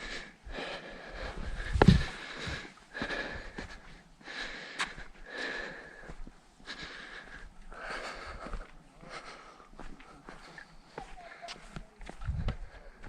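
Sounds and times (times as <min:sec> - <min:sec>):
person breathing hard: 0:00.0 - 0:11.3.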